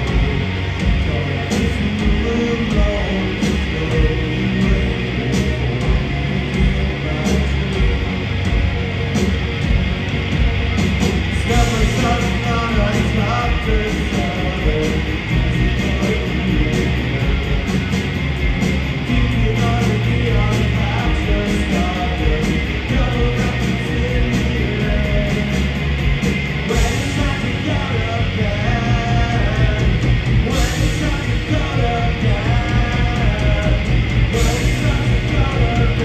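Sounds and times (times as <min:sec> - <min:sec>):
bass guitar: 0:00.0 - 0:36.0
drums: 0:00.0 - 0:36.0
electric guitars: 0:00.0 - 0:36.0.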